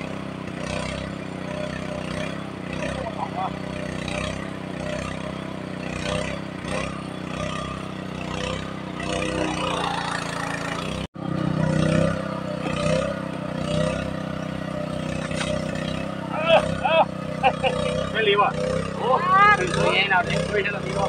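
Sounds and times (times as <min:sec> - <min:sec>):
water pump engine running: 0:00.0 - 0:21.0.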